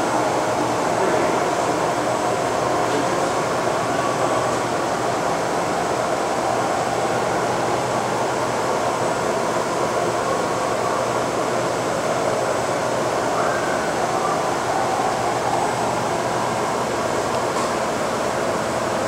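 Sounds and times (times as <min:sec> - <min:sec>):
machining center whirring: 0:00.0 - 0:19.0.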